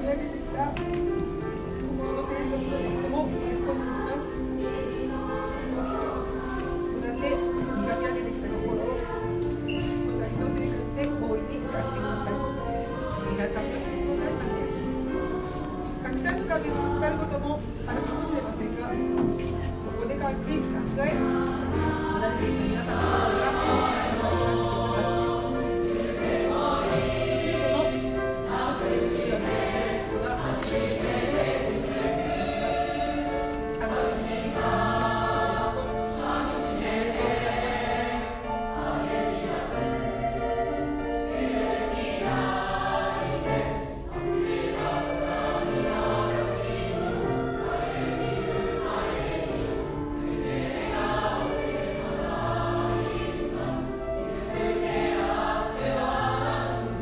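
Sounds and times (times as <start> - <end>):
choir singing with accompaniment: 0.0 - 57.0.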